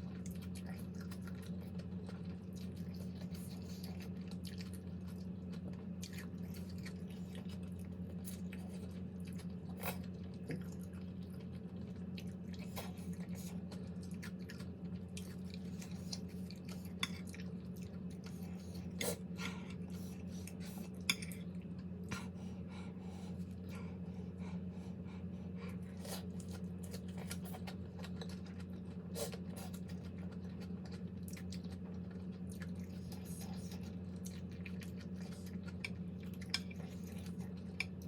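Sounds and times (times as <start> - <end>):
chewing and eating: 0.0 - 38.0
steady low hum: 0.0 - 38.0.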